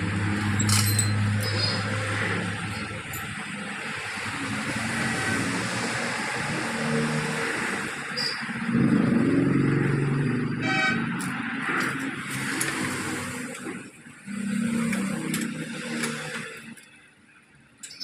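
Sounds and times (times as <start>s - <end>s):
passing road traffic hum: 0.0s - 17.2s.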